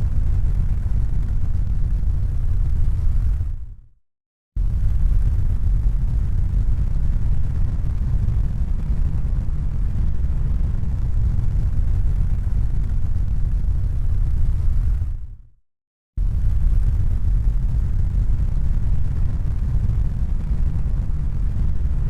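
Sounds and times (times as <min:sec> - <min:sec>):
low rumbling noise: 0:00.0 - 0:03.8, 0:04.6 - 0:15.5, 0:16.2 - 0:22.0.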